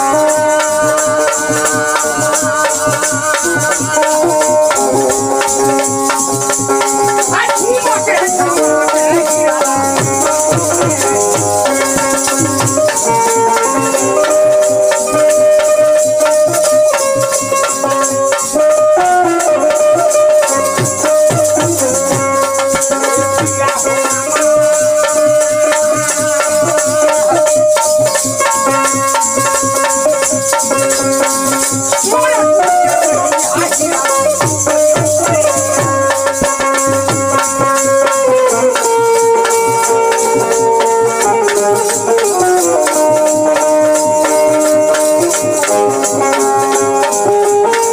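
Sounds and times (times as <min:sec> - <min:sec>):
banjo melody: 0:00.0 - 0:47.9
hand drum beat: 0:00.0 - 0:47.9.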